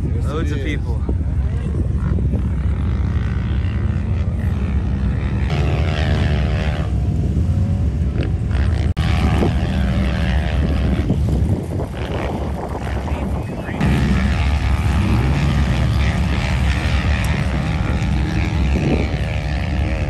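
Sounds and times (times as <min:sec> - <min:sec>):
off-road engines droning: 0:00.0 - 0:20.0
dirt bike engine revving: 0:01.7 - 0:20.0.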